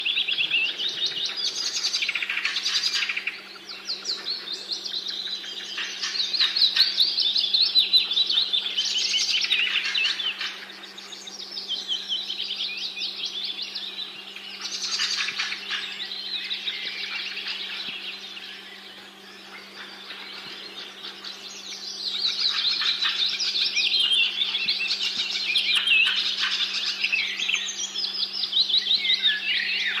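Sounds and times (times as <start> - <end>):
birds trilling and chirping: 0.0 - 30.0.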